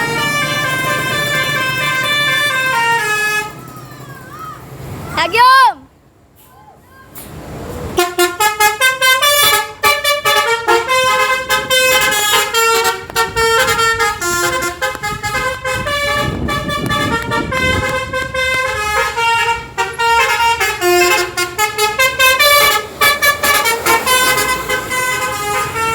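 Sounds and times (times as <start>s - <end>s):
musical air horns playing a tune: 0.0s - 3.6s, 7.9s - 25.9s.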